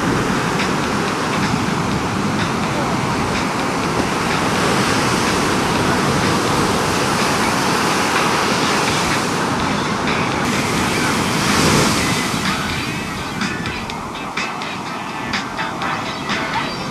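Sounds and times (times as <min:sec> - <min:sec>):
waves breaking: 0:00.0 - 0:16.9.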